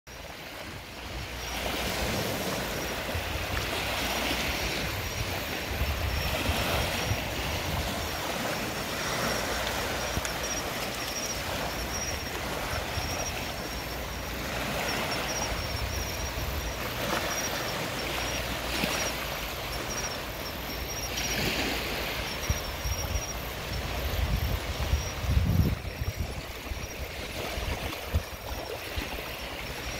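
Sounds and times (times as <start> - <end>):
sea waves washing onto beach: 0.1 - 29.9.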